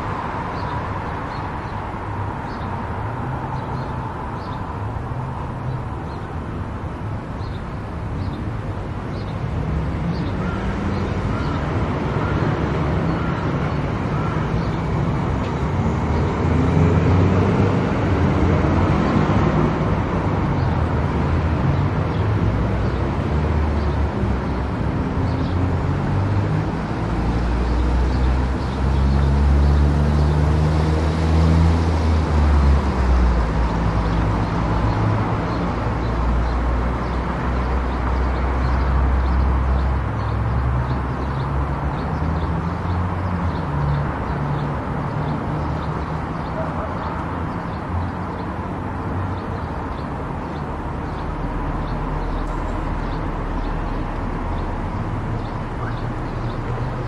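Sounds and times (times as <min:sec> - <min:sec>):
road and tyre noise: 0:00.0 - 0:57.0.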